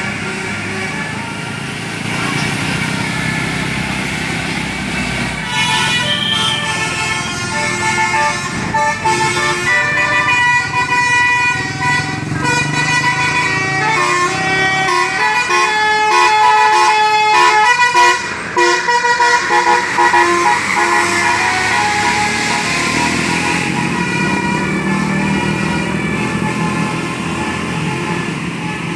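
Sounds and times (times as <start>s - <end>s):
musical bus horn playing tune: 0.0s - 1.7s, 4.9s - 28.9s
vehicle engine noise: 0.0s - 28.9s.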